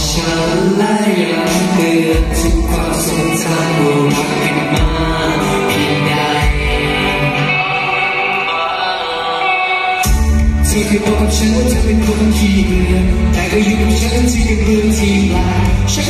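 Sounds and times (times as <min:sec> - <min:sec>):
music with bass line: 0:00.0 - 0:08.4, 0:10.0 - 0:16.0
man singing into a microphone: 0:00.0 - 0:16.0.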